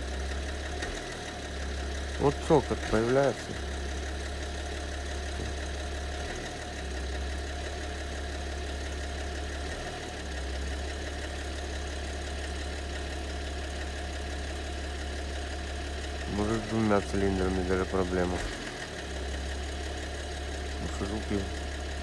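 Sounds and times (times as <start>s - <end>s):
diesel engine idling: 0.0s - 22.0s
engine clatter: 0.0s - 22.0s.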